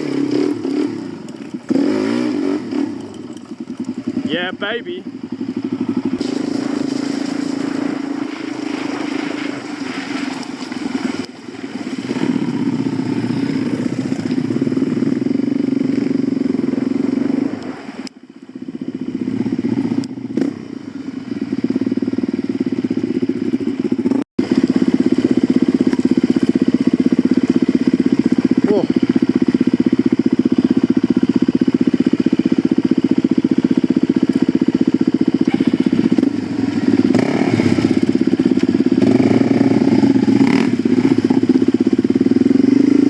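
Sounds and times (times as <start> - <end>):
dirt bike engine under throttle: 0.0 - 43.0.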